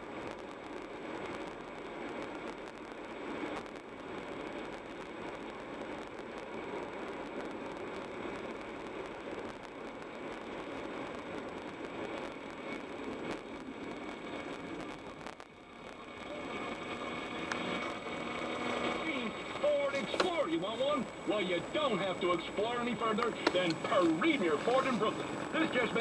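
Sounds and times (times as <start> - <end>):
car tyre and engine noise: 0.0 - 26.0.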